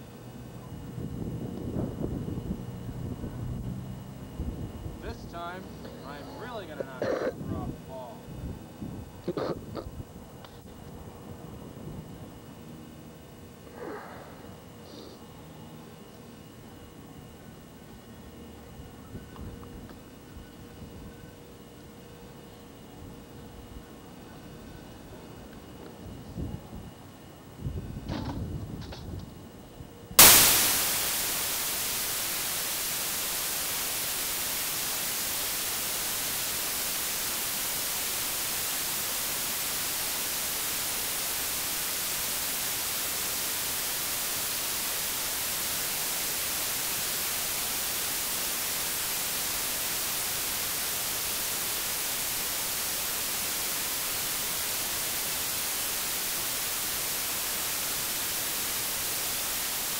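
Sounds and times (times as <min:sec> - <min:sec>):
static hiss: 0:00.0 - 0:25.6, 0:30.2 - 0:59.9.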